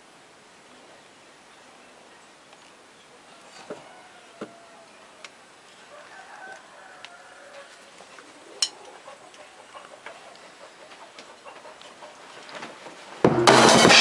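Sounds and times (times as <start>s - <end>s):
faint hiss: 0.0s - 14.0s
distant bird calls: 1.3s - 13.1s.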